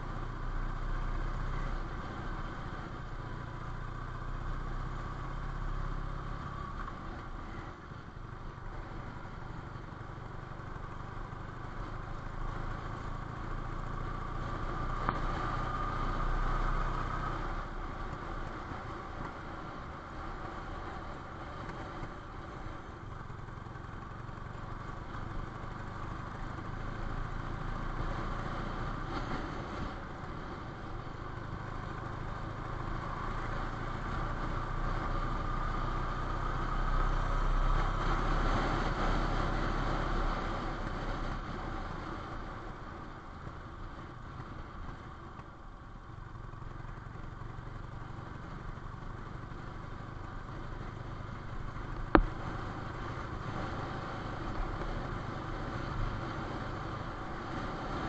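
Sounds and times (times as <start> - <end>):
road and wind noise: 0.0 - 58.0
vehicle engine cruising: 0.0 - 58.0.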